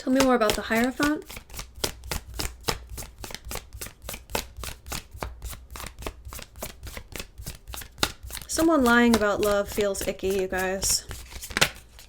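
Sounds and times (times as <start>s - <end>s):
cards being shuffled: 0.1s - 12.0s.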